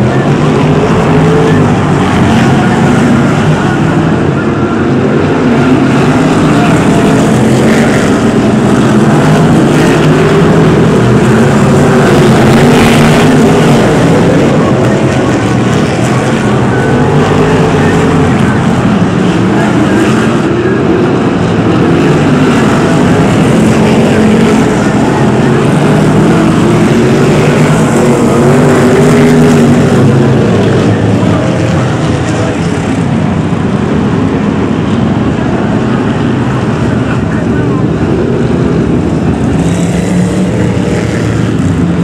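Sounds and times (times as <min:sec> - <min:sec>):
racing car engines: 0:00.0 - 0:42.0.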